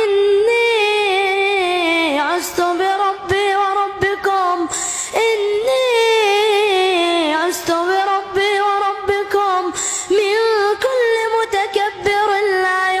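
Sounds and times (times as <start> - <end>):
young voice chanting recitation: 0.0 - 13.0.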